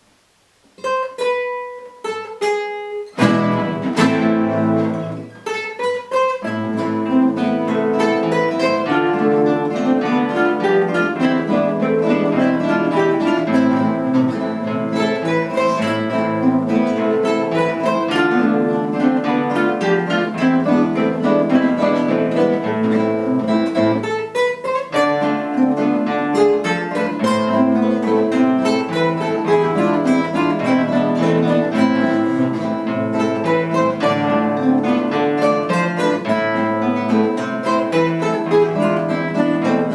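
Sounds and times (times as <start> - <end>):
acoustic guitar ensemble playing: 0.7 - 39.9.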